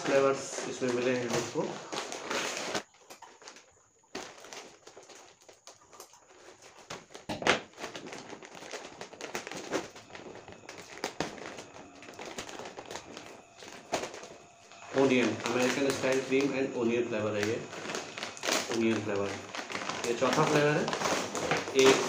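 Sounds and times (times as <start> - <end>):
plastic chip packet crinkling: 0.0 - 22.0.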